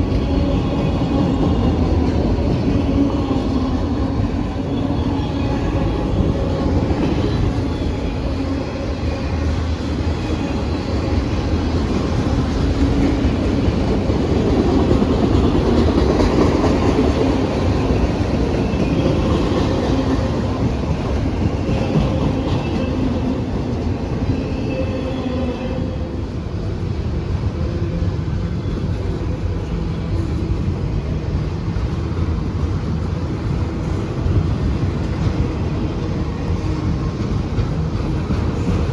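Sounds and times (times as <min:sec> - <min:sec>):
freight train cars rumbling on rails: 0:00.0 - 0:38.9.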